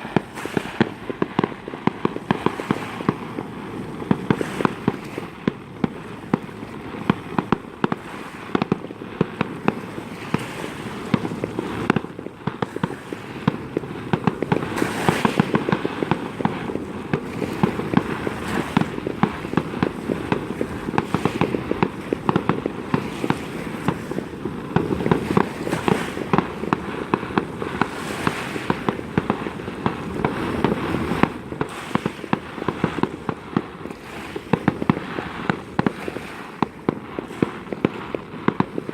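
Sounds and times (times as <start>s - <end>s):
fireworks bangs: 0.0s - 38.9s
fireworks crackling and popping: 0.0s - 38.9s.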